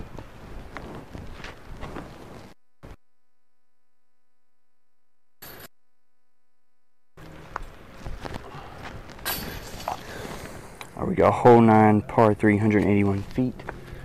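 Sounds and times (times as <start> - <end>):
outdoor noise: 0.0 - 14.0.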